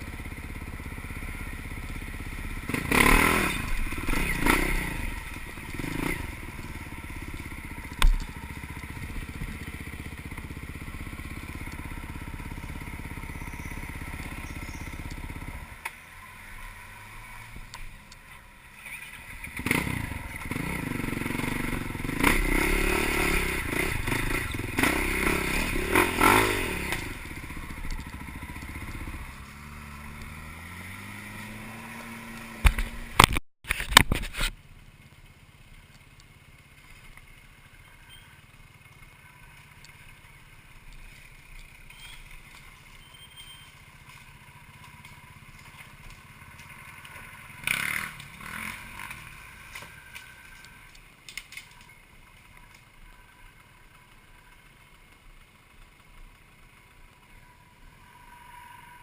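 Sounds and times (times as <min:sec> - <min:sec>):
off-road vehicle engine revving: 0:00.0 - 0:33.4, 0:37.6 - 0:51.0, 0:57.0 - 0:59.0.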